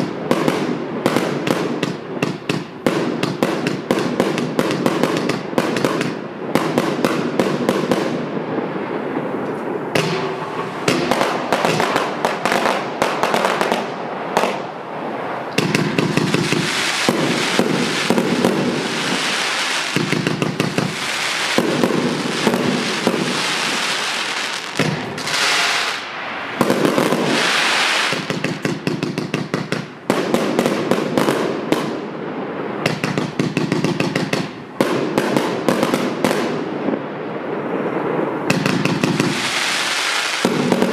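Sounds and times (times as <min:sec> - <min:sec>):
firework shots and bursting shells: 0:00.0 - 0:08.4, 0:09.9 - 0:14.7, 0:15.6 - 0:32.2, 0:32.8 - 0:37.0, 0:38.5 - 0:40.9.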